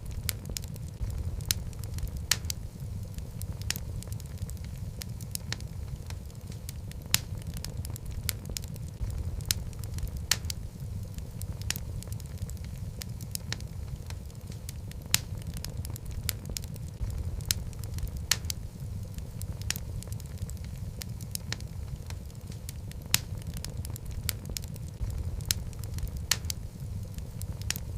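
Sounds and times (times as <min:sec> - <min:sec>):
logs burning in fireplace: 0:00.0 - 0:27.9.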